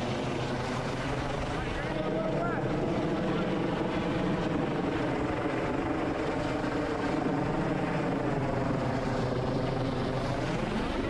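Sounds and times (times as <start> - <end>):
helicopter rotors and turbine drone: 0.0 - 11.0.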